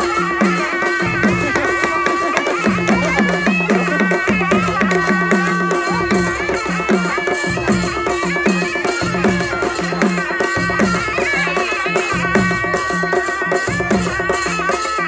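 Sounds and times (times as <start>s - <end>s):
cymbals clashing: 0.0s - 15.0s
reed pipes playing melody: 0.0s - 15.0s
steady drum beats: 0.0s - 15.0s.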